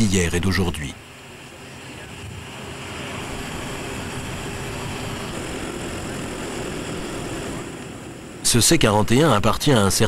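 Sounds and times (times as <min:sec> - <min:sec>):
aircraft engines rushing: 0:00.0 - 0:10.0.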